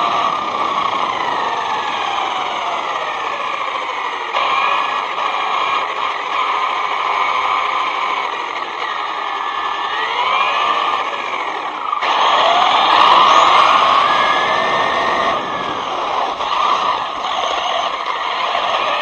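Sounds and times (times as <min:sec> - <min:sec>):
electric motor whining: 0:00.0 - 0:19.0
steady rushing noise: 0:00.0 - 0:19.0.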